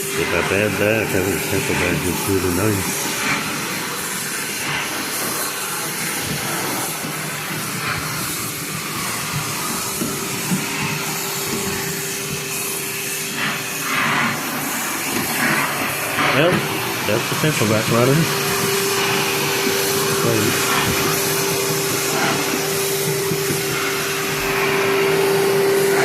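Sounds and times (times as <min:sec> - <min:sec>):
vacuum rushing air: 0:00.0 - 0:26.0.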